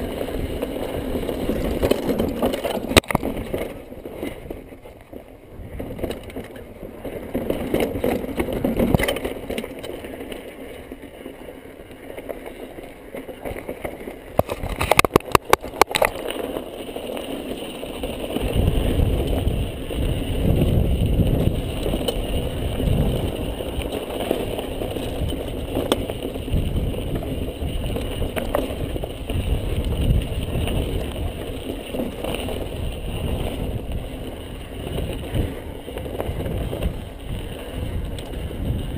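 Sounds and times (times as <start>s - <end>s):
bike rattling: 0.0s - 38.9s
bike tyres rumbling on gravel: 0.0s - 38.9s.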